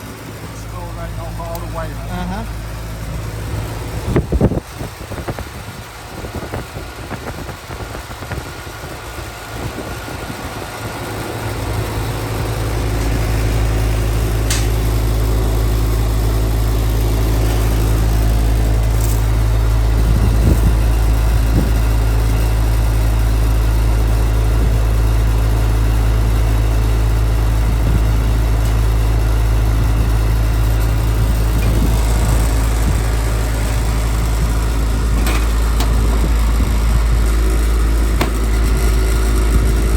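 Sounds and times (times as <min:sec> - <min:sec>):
air conditioner motor humming: 0:00.0 - 0:39.9.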